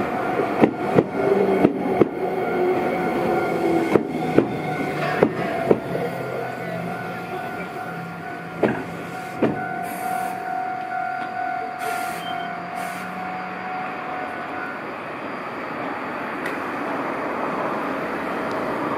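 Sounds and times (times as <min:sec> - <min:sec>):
steady high tone: 0:00.0 - 0:16.4
electric train humming: 0:00.0 - 0:18.9.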